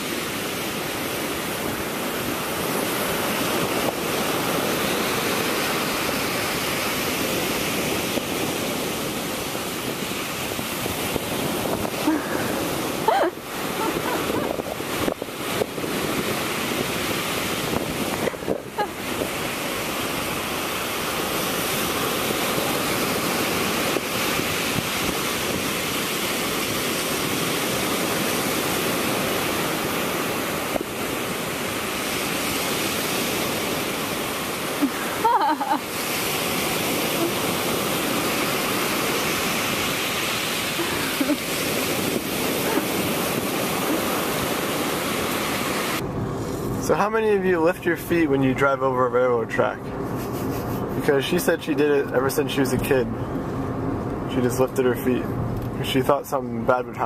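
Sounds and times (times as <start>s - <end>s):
wind on microphone: 0.0s - 48.4s
ocean surf breaking: 0.0s - 57.0s.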